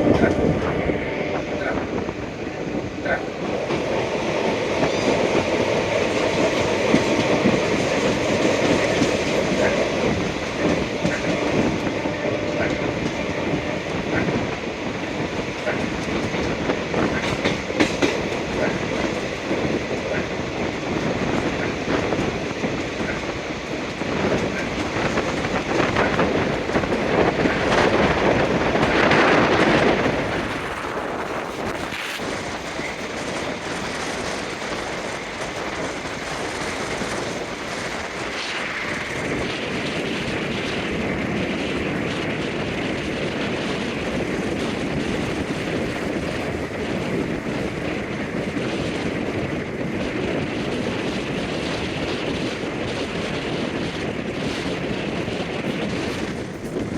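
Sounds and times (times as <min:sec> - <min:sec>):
train wheels clacking on track: 0:00.0 - 0:56.9.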